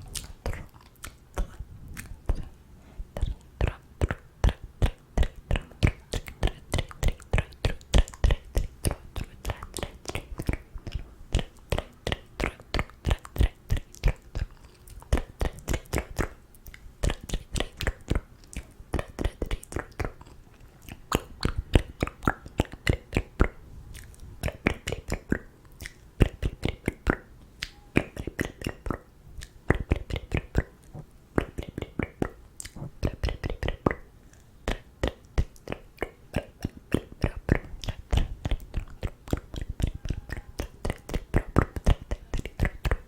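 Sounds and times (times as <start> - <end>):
wet tongue clicks: 0.0 - 2.6, 3.2 - 43.0
lip smacks: 0.0 - 43.0.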